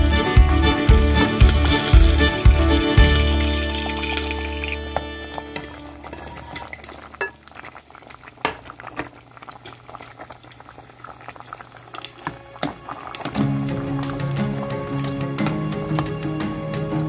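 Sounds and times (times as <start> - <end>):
curry bubbling in a pot: 1.3 - 16.6.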